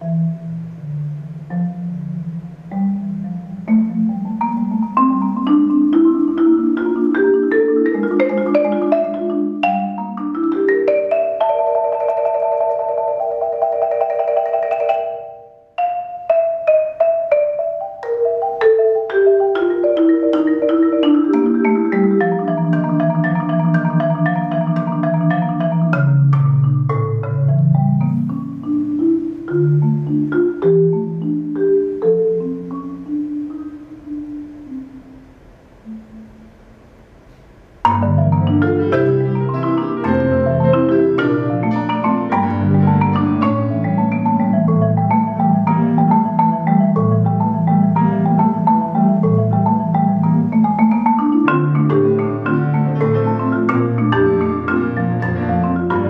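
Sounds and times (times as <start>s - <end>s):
marimba runs: 0.0s - 36.9s, 37.8s - 56.0s.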